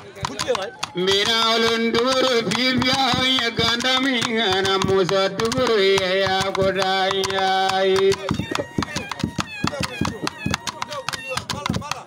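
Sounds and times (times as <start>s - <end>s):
calabash drum strokes: 0.0s - 12.0s.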